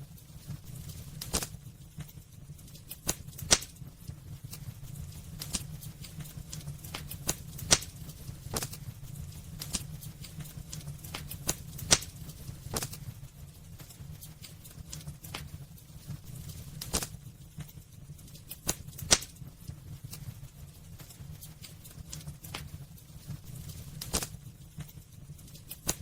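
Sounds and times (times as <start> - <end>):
fire low rumble: 0.0 - 26.0
wood fire crackling and popping: 0.0 - 26.0.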